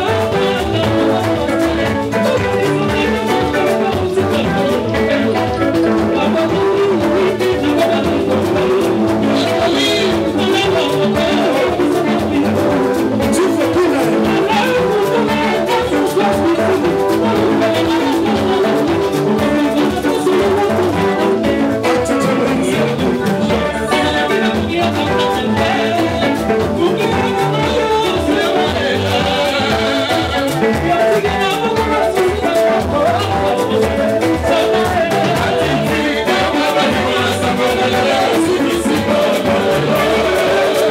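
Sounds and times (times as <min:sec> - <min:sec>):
drum kit: 0:00.0 - 0:40.9
electric guitars: 0:00.0 - 0:40.9
person singing on microphone: 0:00.0 - 0:40.9.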